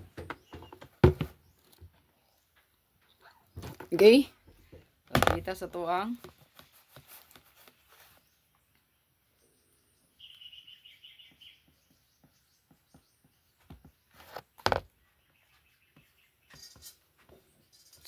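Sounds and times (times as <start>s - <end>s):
small bird chirping: 0.1s - 4.8s, 7.5s - 18.0s.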